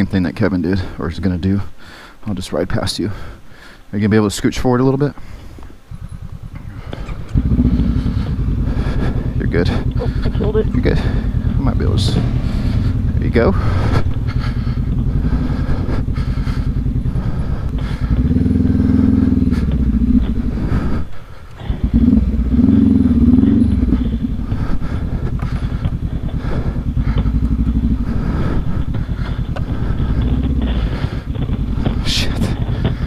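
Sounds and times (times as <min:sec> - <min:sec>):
motorcycle engine revving: 0:05.3 - 0:33.0.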